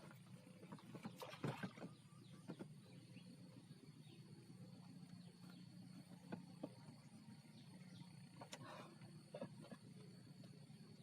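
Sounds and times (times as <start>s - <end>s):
faint background hum: 0.0s - 11.0s.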